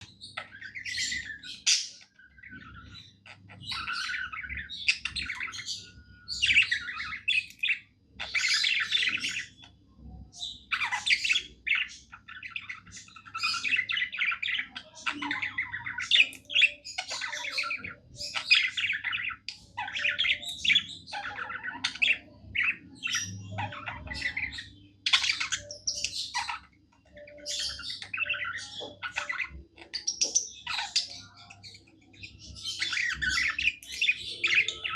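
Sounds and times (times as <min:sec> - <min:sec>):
budgerigar chattering and chirping: 0:00.0 - 0:09.8, 0:10.4 - 0:34.9.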